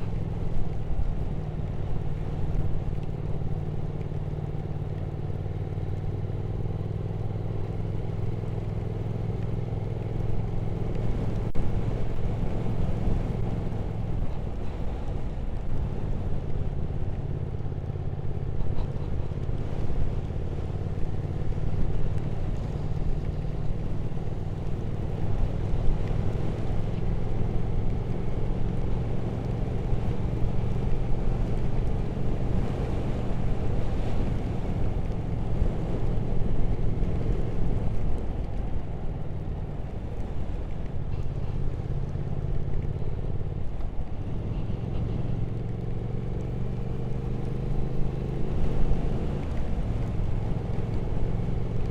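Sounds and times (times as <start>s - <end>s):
motorcycle engine running: 0.0s - 51.9s
road and wind noise: 0.0s - 51.9s.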